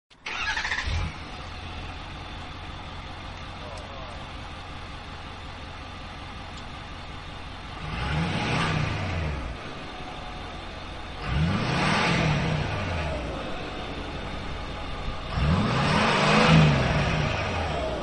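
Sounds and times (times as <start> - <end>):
truck engine idling and revving: 0.1 - 18.0.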